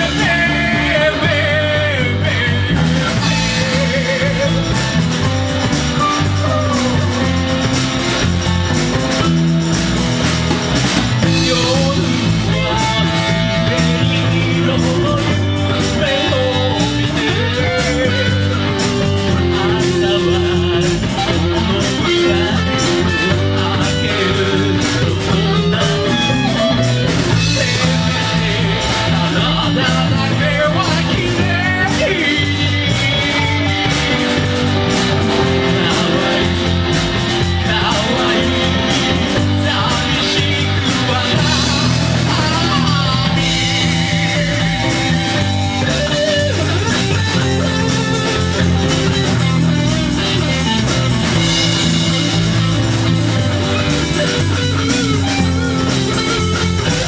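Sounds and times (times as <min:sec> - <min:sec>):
person singing: 0:00.0 - 0:08.6, 0:11.1 - 0:57.0
rock band playing: 0:00.0 - 0:57.0.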